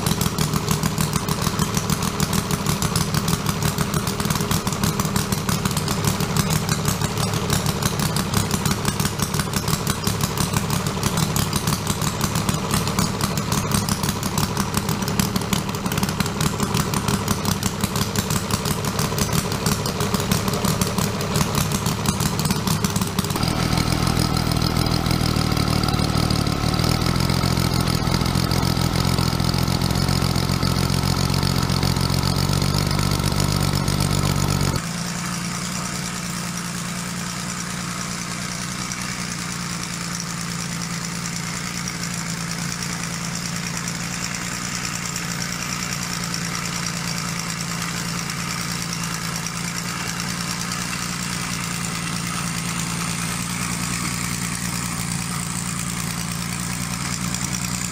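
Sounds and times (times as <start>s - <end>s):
model diesel engine running: 0.0s - 57.9s.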